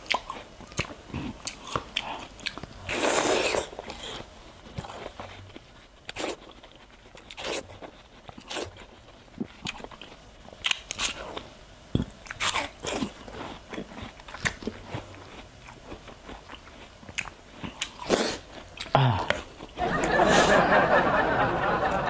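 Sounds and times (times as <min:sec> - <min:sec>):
chewing: 0:00.0 - 0:19.8.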